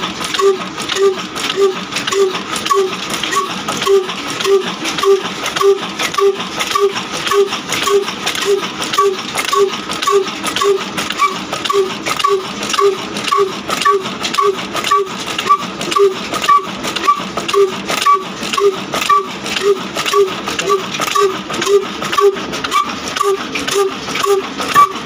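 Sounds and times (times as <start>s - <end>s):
diesel engine running slowly: 0.0s - 25.0s
valve gear clattering: 0.0s - 25.0s.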